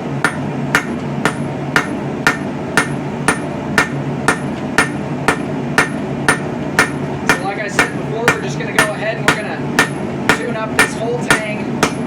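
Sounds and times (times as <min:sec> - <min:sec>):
hammer striking steel on anvil: 0:00.2 - 0:12.0.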